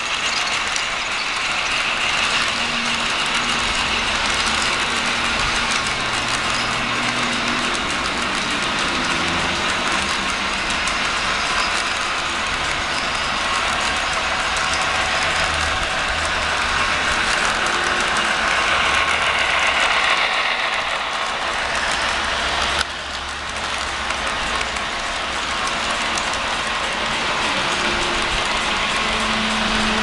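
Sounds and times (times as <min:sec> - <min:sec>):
model train motors whirring: 0:00.0 - 0:30.0
small wheels clicking on track: 0:00.0 - 0:30.0.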